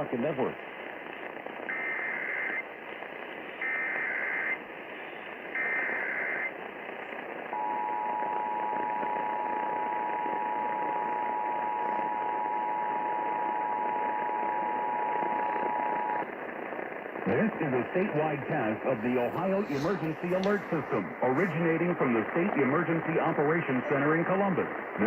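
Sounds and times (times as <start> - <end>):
radio hiss: 0.0 - 25.0.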